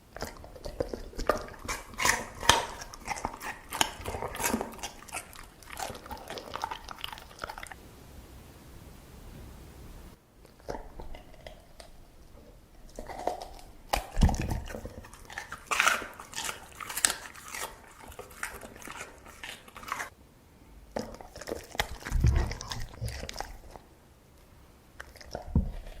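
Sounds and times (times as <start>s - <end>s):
dog chewing food: 0.1s - 7.8s, 10.4s - 20.1s, 20.9s - 23.9s, 25.0s - 26.0s.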